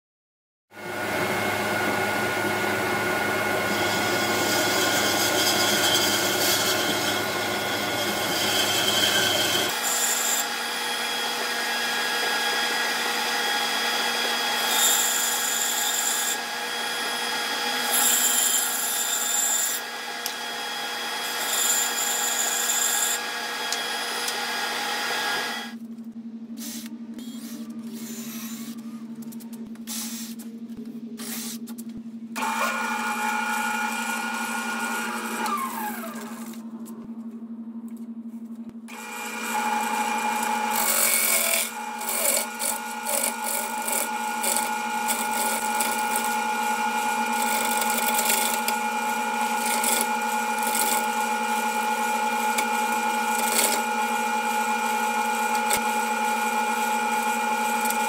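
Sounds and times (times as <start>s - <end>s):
band saw cutting wood: 0.9s - 25.8s, 32.4s - 36.7s, 38.9s - 58.0s.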